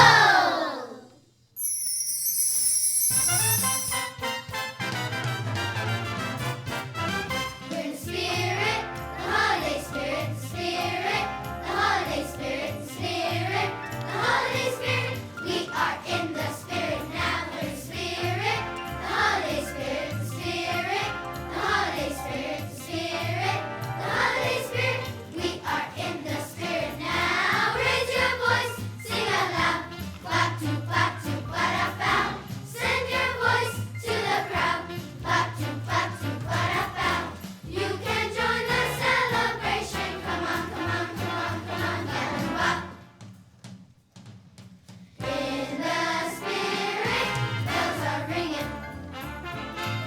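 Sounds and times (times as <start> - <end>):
children's choir singing: 0.0 - 1.2, 7.7 - 43.2, 45.2 - 49.2.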